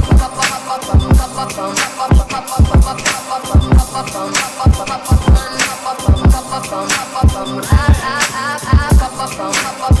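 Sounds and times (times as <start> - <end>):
hip hop music: 0.0 - 10.0.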